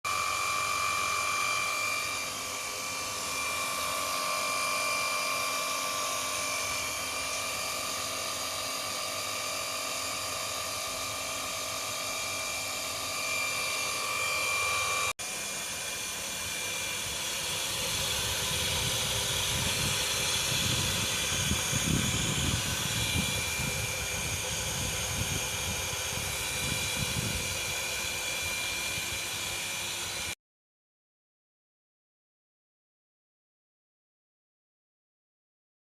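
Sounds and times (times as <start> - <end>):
water pump whine: 0.0 - 30.4.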